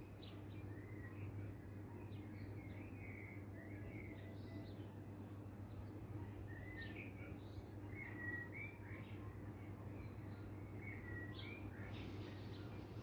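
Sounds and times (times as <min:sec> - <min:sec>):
low background hum: 0:00.0 - 0:13.0
songbirds chirping: 0:00.0 - 0:13.0.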